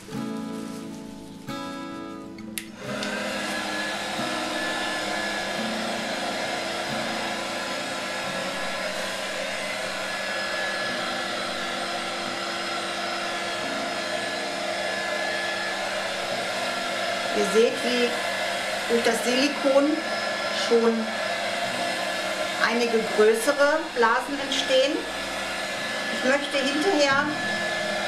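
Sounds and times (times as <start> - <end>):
heat gun blowing with whine: 2.6 - 28.0.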